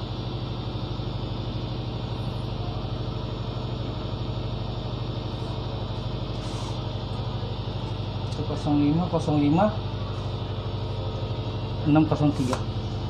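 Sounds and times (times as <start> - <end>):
engine running with throb: 0.0 - 13.0.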